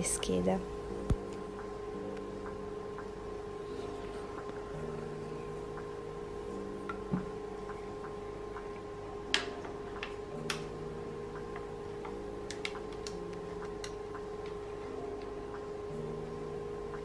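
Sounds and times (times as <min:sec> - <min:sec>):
background music sustained notes: 0:00.0 - 0:17.0.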